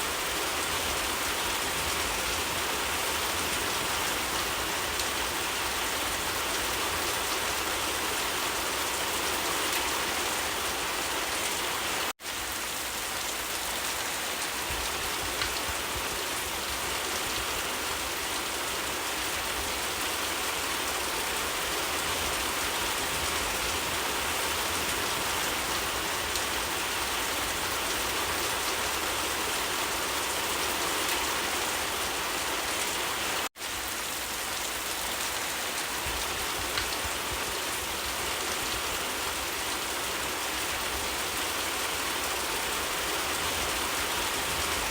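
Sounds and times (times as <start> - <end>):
rain pattering on surfaces: 0.0 - 44.9.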